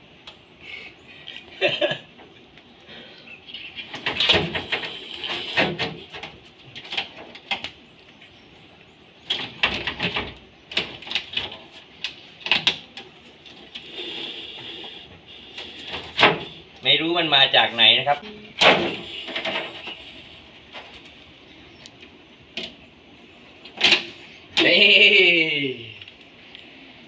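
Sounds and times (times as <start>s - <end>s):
birds chirping faintly: 0.0s - 27.0s.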